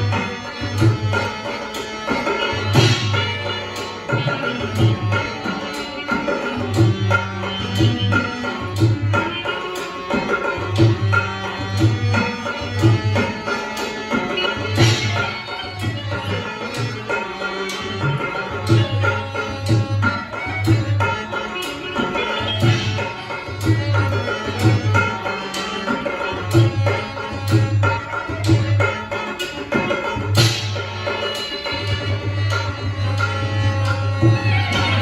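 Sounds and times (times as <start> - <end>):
hand drum rhythm: 0.0 - 35.0.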